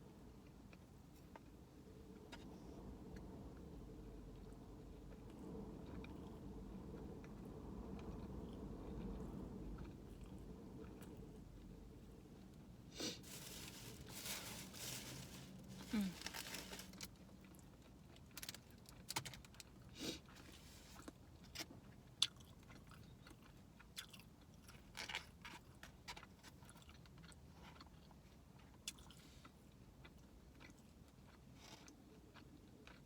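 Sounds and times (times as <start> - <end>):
faint steady hum: 0.0 - 33.0
person chewing with wet smacks: 0.2 - 12.8, 17.2 - 33.0.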